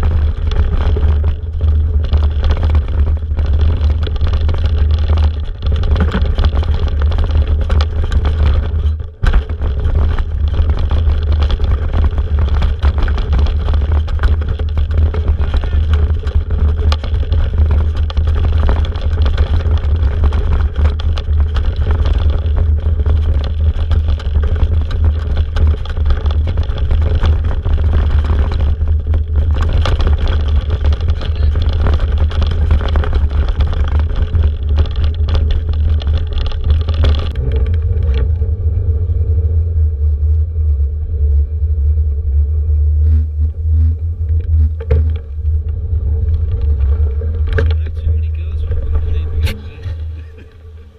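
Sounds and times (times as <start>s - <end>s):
bike clattering over rough ground: 0.0s - 38.5s, 44.4s - 50.9s
wind buffeting microphone: 0.0s - 42.6s.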